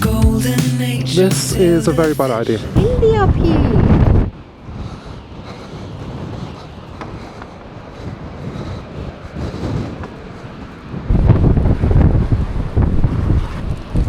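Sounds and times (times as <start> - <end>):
wind buffeting microphone: 2.7 - 14.0.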